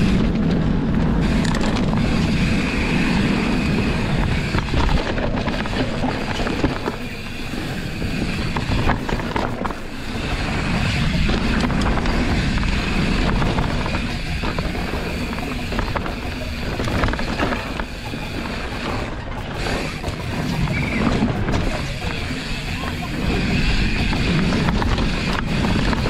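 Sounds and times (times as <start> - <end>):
bike rattles and knocks: 0.0 - 26.0
bike tyre noise: 0.0 - 26.0
wind rushing and buffeting: 0.0 - 26.0.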